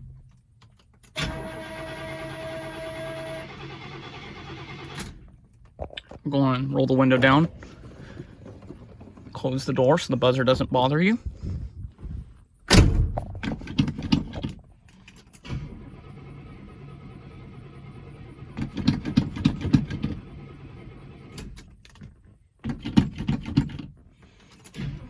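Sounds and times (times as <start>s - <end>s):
car starter cranking: 0.0s - 5.8s, 6.6s - 9.8s, 13.5s - 25.0s
car engine starting: 0.0s - 10.2s, 15.0s - 25.0s.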